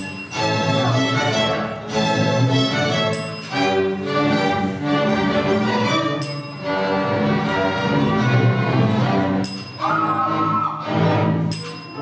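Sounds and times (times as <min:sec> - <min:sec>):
string orchestra playing: 0:00.0 - 0:12.0.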